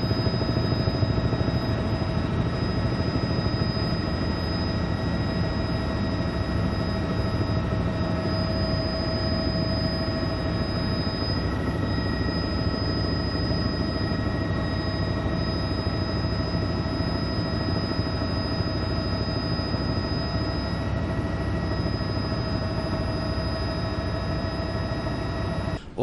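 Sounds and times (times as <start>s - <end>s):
helicopter high whines: 0.0s - 26.0s
helicopter low rumble: 0.0s - 26.0s.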